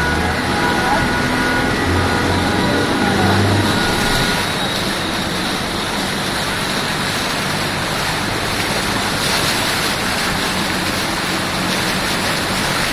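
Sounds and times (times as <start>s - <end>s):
faint low vehicle hum: 0.0s - 12.9s
water rushing on a road: 0.0s - 12.9s.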